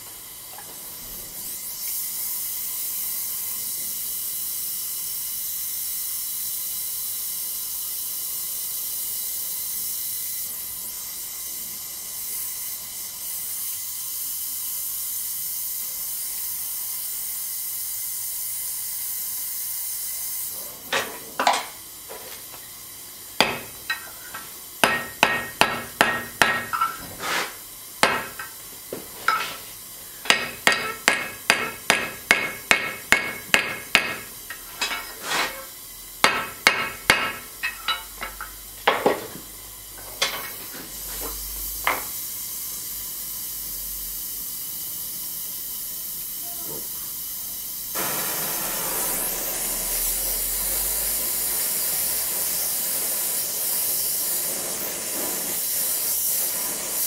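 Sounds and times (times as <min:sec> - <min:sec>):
torch hissing: 0:00.0 - 0:57.0.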